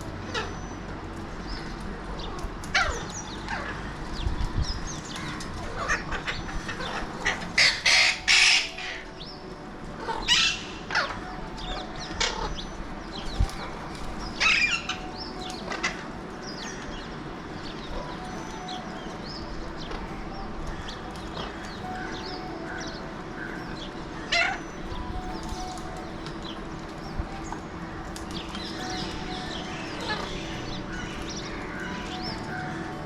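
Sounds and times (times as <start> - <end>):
parakeets screeching: 0.0 - 9.4, 10.0 - 33.0.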